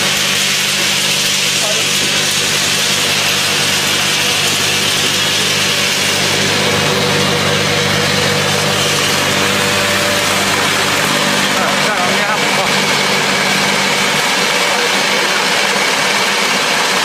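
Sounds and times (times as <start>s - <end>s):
machine hum: 0.0s - 17.0s
peanuts pouring into metal bin: 0.0s - 17.0s.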